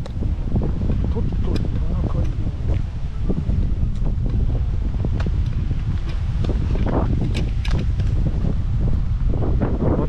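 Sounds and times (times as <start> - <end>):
footsteps on asphalt: 0.0 - 9.3
wind buffeting microphone: 0.0 - 10.0.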